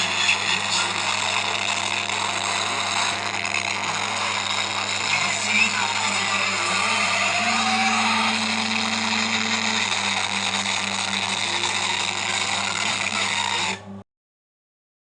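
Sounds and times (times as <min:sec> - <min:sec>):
loud hissing noise: 0:00.0 - 0:13.9.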